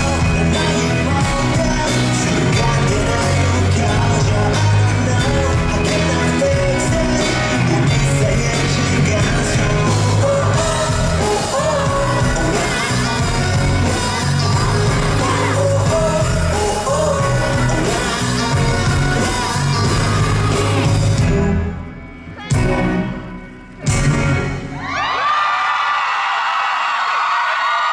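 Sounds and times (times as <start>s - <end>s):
live pop-rock band with singing: 0.0s - 25.9s.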